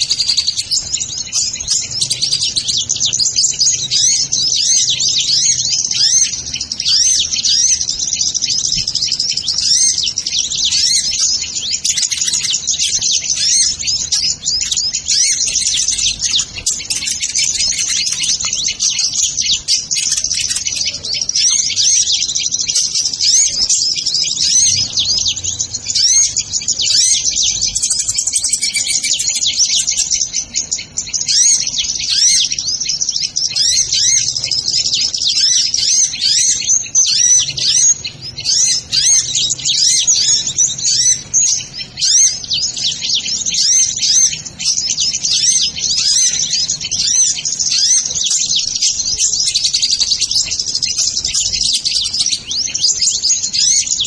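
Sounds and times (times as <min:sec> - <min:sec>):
birds chirping rapidly: 0:00.0 - 0:54.0.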